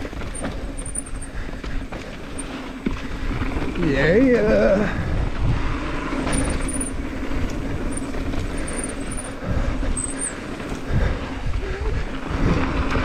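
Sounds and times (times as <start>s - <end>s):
bike tyres rumbling on dirt: 0.0s - 13.0s
wind buffeting microphone: 0.0s - 13.0s.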